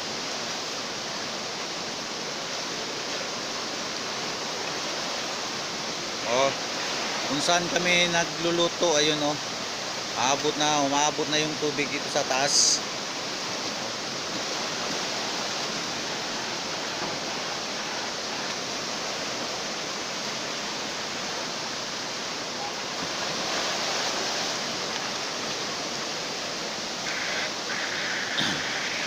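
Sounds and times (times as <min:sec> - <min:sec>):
floodwater roaring: 0:00.0 - 0:29.0.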